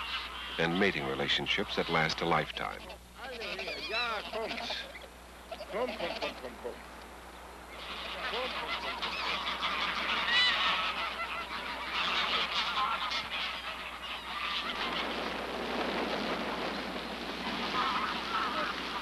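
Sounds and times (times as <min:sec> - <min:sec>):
geese honking and chattering: 0:00.0 - 0:06.8, 0:07.6 - 0:19.0.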